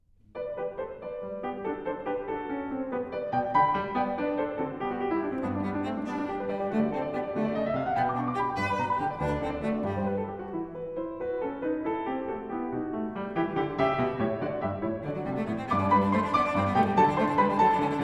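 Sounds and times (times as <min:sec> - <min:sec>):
piano and strings music: 0:00.4 - 0:18.0.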